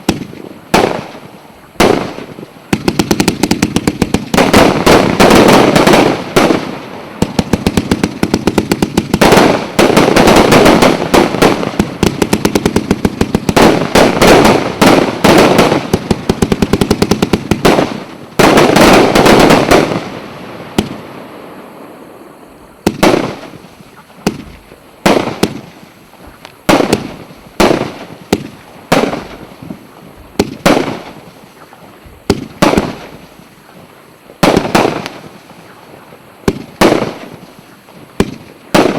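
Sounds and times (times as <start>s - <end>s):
fireworks launches and bursts: 0.0s - 38.9s.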